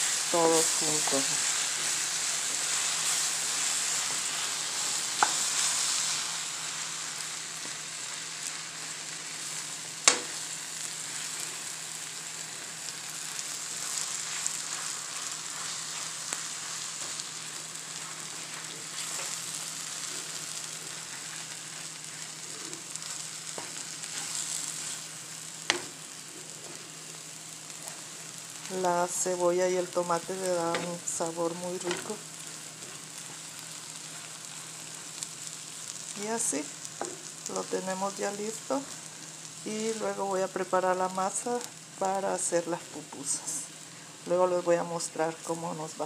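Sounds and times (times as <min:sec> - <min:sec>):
food sizzling in a frying pan: 0:00.0 - 0:46.0.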